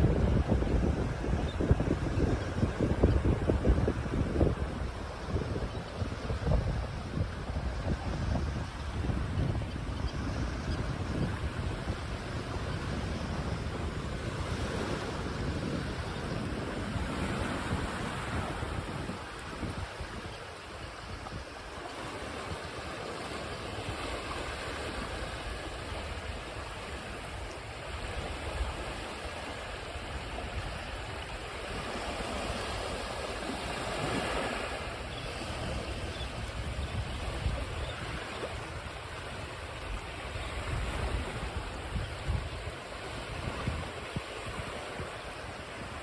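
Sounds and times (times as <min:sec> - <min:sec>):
low rumble of surf: 0:00.0 - 0:46.0
ocean waves washing ashore: 0:00.0 - 0:46.0
wind buffeting microphone: 0:00.0 - 0:46.0.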